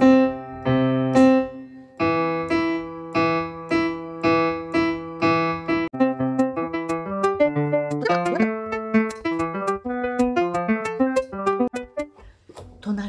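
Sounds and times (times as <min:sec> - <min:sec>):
electronic keyboard in piano voice: 0:00.0 - 0:12.1.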